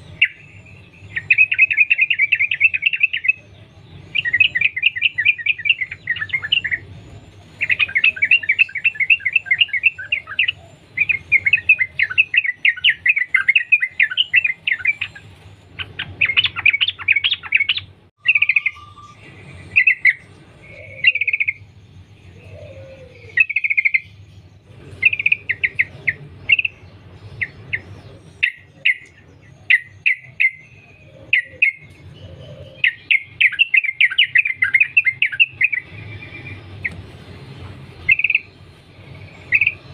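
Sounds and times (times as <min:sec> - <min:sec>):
bulbul singing chattering notes: 0:00.0 - 0:37.0.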